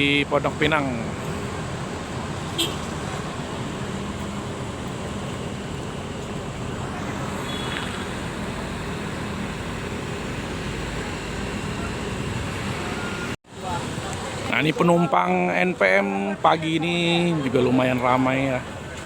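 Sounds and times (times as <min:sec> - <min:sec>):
diesel coach engine idling: 0:00.0 - 0:19.0
traffic noise: 0:00.0 - 0:19.0.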